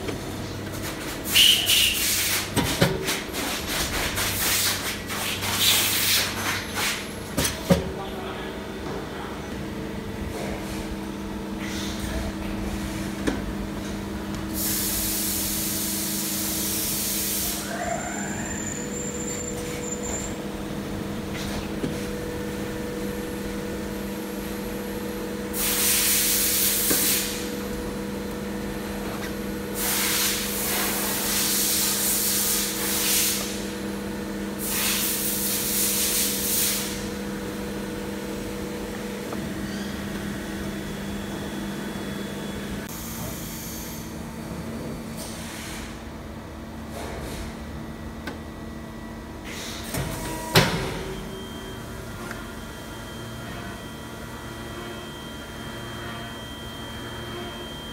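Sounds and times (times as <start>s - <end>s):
steady machine hum: 0.0s - 57.9s.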